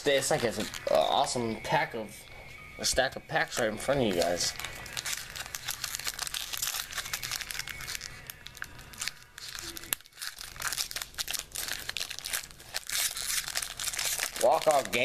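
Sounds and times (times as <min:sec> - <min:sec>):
foil wrapper crinkling and tearing: 0:00.0 - 0:01.4, 0:03.4 - 0:15.0.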